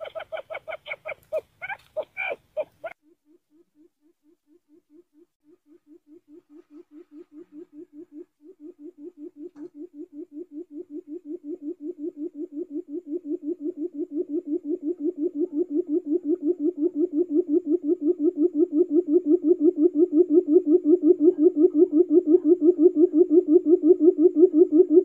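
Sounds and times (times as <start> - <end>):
quail call low hooting notes: 0.0 - 25.0.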